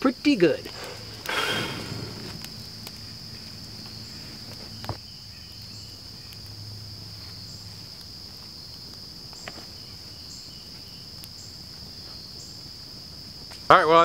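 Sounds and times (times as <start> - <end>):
campfire crackle: 0.0 - 14.0
insects trilling: 0.0 - 14.0.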